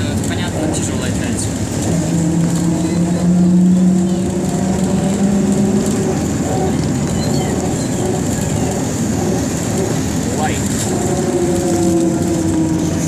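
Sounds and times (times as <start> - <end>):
trolleybus drive whine: 0.0 - 13.0
trolleybus ride rumble: 0.0 - 13.0.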